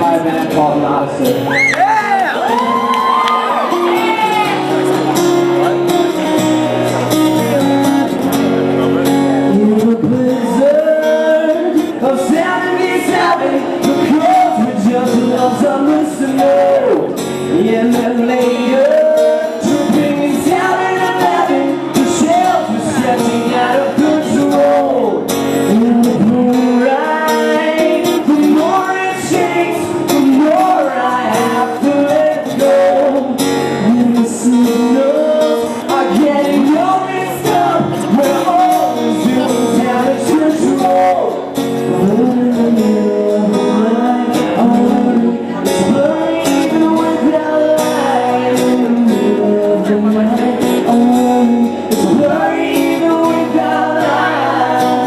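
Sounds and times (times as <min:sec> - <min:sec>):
person singing: 0:00.0 - 0:08.4, 0:09.0 - 0:55.0
acoustic guitar: 0:00.0 - 0:55.0.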